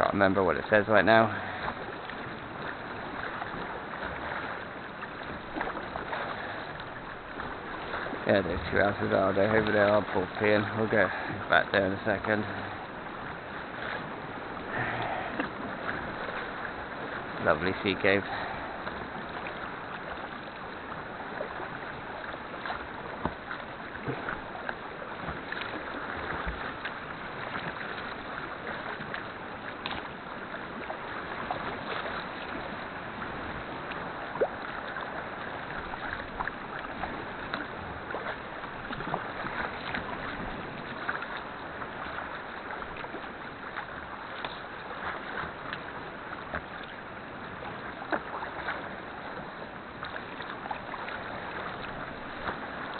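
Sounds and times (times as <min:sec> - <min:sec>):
paddle blades splashing: 0:00.0 - 0:52.9
wash of sea: 0:00.0 - 0:52.9
water lapping against hull: 0:00.0 - 0:52.9.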